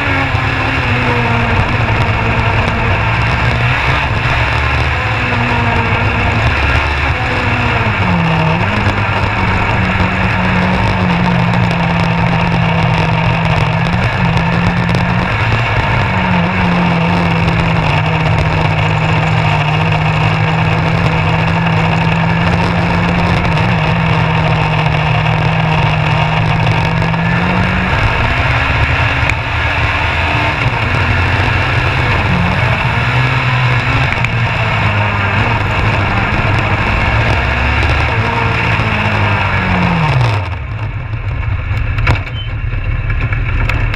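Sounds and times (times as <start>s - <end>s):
race car engine running hard: 0.0s - 43.9s
tyre and wind noise: 0.0s - 43.9s.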